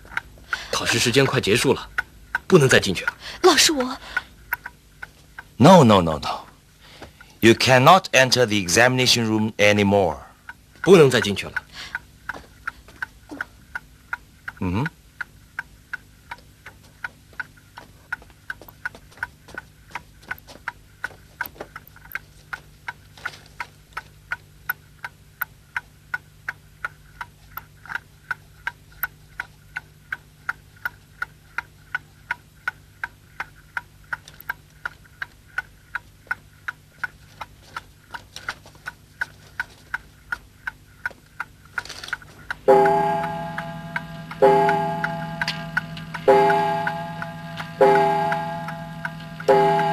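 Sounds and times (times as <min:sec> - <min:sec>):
wall clock ticking: 0:00.0 - 0:49.9.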